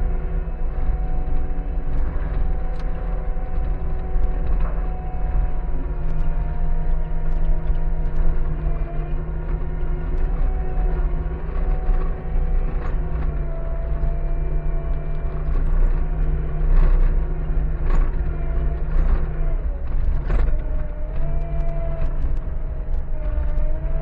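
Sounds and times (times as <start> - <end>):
diesel engine running: 0.0 - 24.0
clanks and rattles: 0.4 - 24.0.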